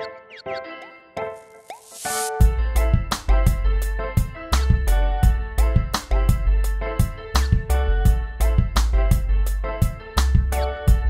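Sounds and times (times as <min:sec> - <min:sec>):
instrumental music with drum beat: 0:01.6 - 0:11.0.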